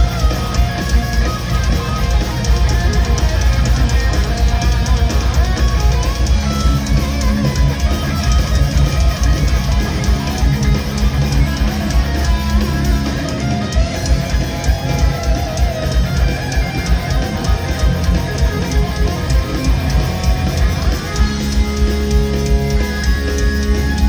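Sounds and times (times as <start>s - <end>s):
bass: 0.0s - 24.0s
distorted electric guitar: 0.0s - 24.0s
fast drum beat: 0.0s - 24.0s.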